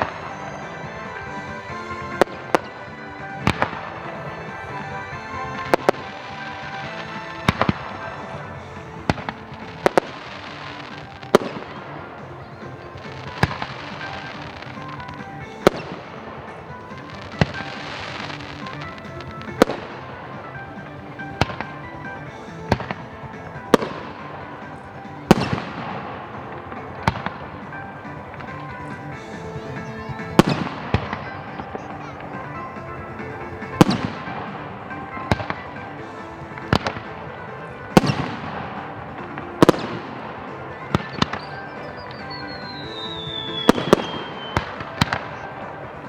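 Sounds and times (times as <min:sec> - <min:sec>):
background music: 0:00.0 - 0:46.0
crackling hiss: 0:00.0 - 0:46.0
fireworks exploding: 0:00.0 - 0:46.0.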